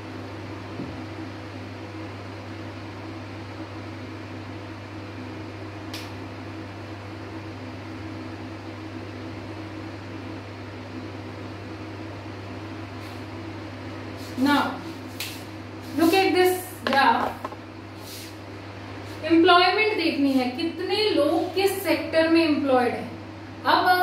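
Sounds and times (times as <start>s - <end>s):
electric fan humming: 0.0s - 24.0s.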